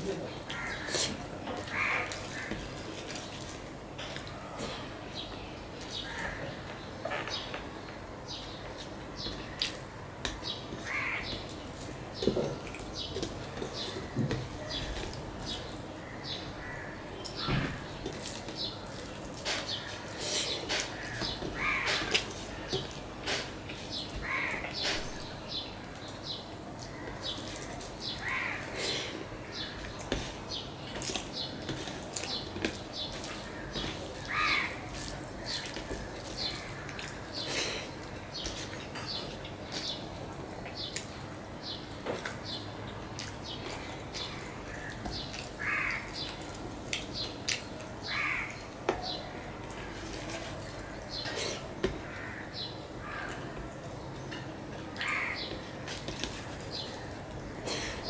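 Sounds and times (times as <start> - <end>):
hand mixing rice on a plate: 0.0 - 4.6, 8.6 - 42.4, 43.2 - 53.9, 54.5 - 58.0
small birds chirping: 0.0 - 58.0.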